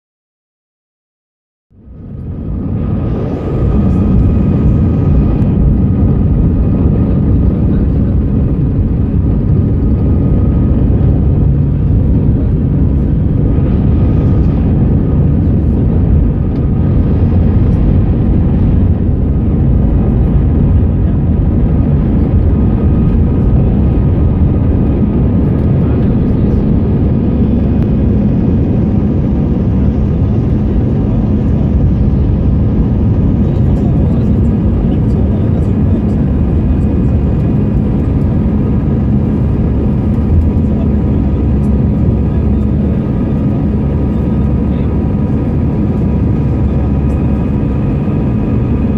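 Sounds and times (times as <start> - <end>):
jet engines roaring in cabin: 1.7 - 48.9.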